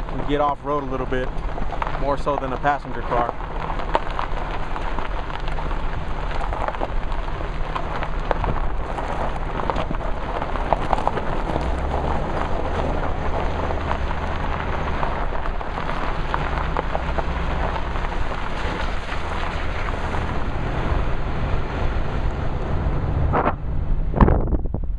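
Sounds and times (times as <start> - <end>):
tyres rolling over gravel: 0.0 - 23.0
truck engine drone: 0.0 - 24.9.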